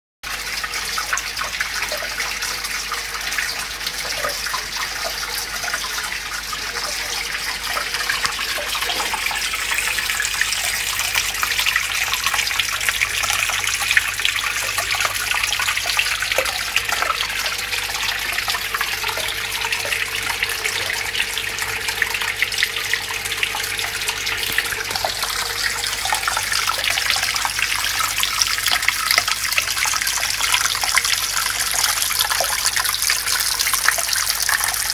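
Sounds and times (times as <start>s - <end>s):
water pouring and splashing: 0.2s - 34.9s.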